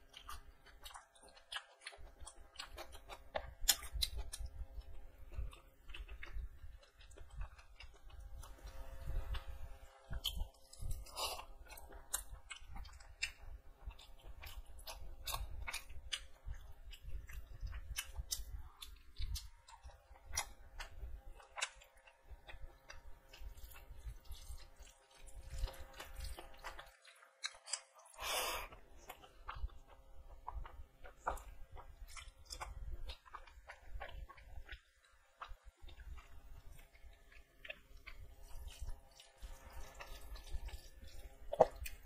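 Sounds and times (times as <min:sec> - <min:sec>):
wet mouth chewing clicks and smacks: 0:00.1 - 0:08.6, 0:10.1 - 0:42.0.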